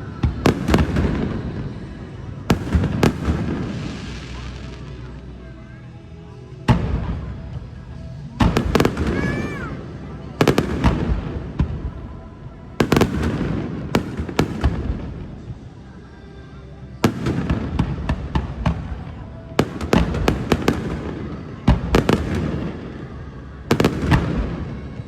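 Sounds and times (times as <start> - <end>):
fireworks exploding: 0.0 - 5.3, 6.7 - 12.1, 12.8 - 15.5, 17.0 - 23.0, 23.7 - 24.8.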